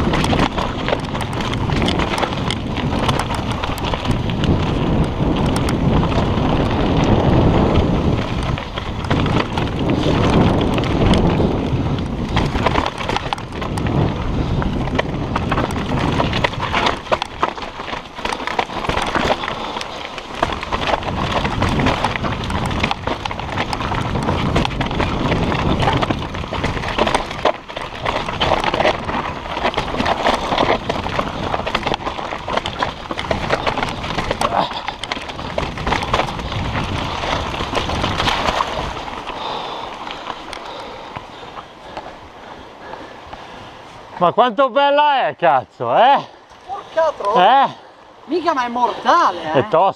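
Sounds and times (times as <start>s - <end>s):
tyres crunching over loose stones: 0.0s - 42.3s
bike rattling: 0.0s - 49.9s
wind rumbling on microphone: 0.0s - 49.9s.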